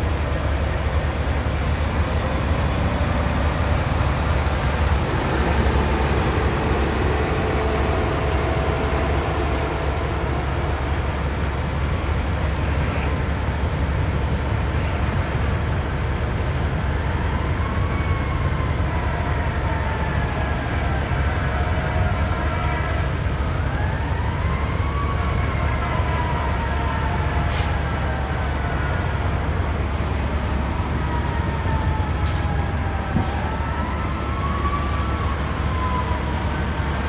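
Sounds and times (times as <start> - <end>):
emergency siren wailing: 0.0 - 37.0.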